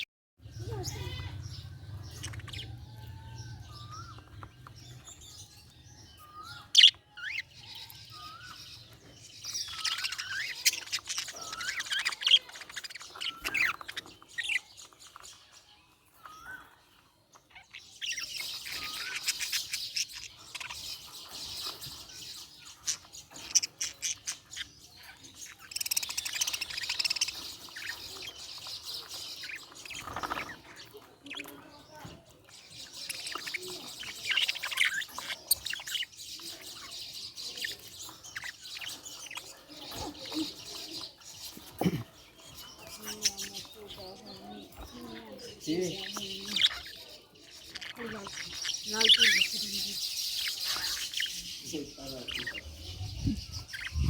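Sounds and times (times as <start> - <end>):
budgerigars chirping and warbling: 0.0 - 54.0.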